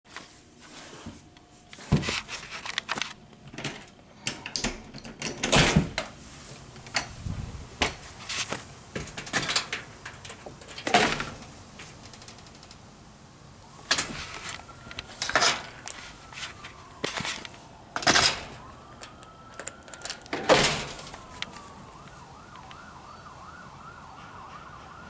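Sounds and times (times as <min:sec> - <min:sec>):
knocks and rattles of handling: 0:01.0 - 0:07.2, 0:07.8 - 0:12.8, 0:13.8 - 0:22.8.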